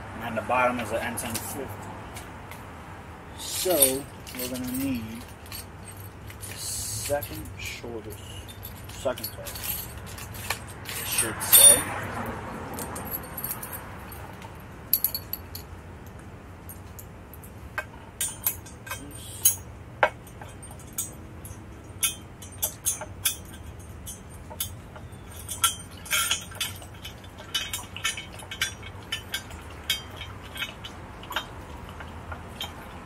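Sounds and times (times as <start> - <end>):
metal bolts and washers clinking: 3.4 - 15.7, 16.7 - 33.0.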